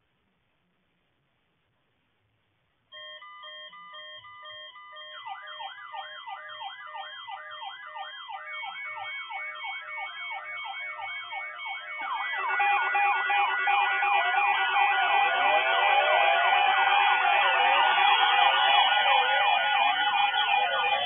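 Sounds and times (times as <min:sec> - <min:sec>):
alternating two-pitch beep: 0:03.0 - 0:21.0
warbling siren: 0:03.0 - 0:21.0.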